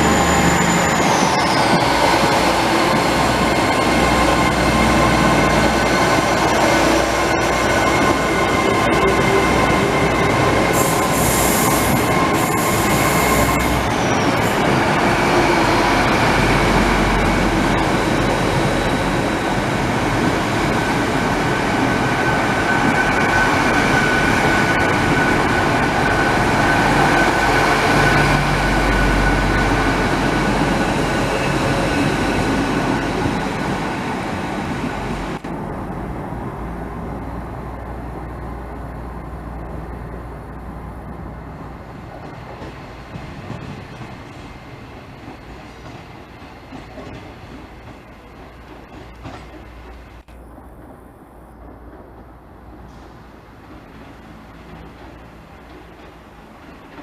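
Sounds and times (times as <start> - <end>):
train rumbling with wheel squeal: 0.0 - 57.0.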